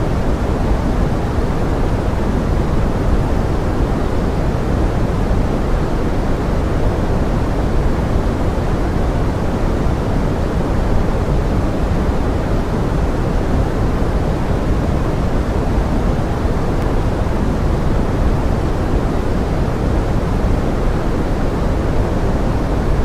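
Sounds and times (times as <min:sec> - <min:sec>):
pink noise: 0:00.0 - 0:23.0.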